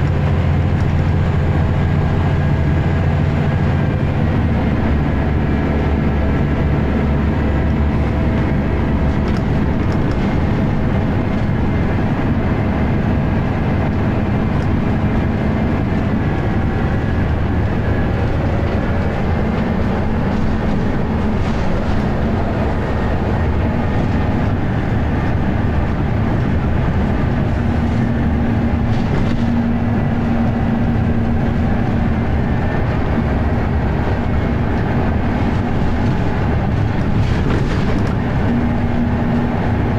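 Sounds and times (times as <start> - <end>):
bus diesel engine cruising: 0.0 - 39.9
road and wind noise: 0.0 - 39.9.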